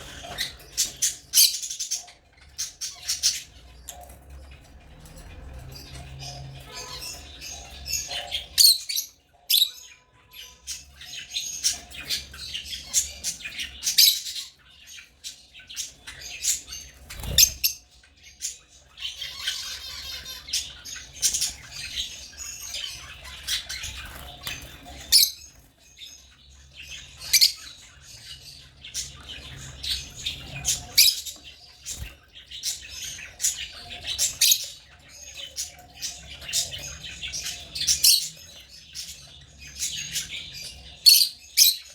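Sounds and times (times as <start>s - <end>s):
lovebirds chirping and squawking: 0.0s - 41.9s.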